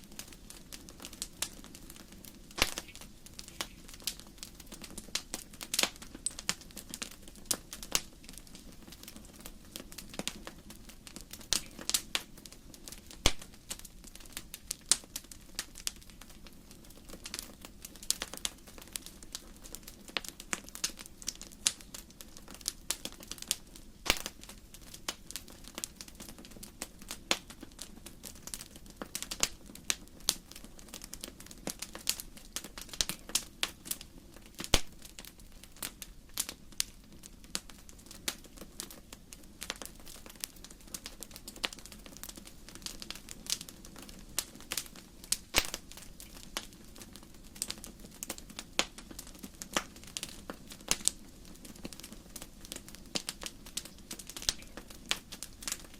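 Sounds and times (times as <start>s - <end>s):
pops and snaps of burning logs: 0.1s - 55.9s.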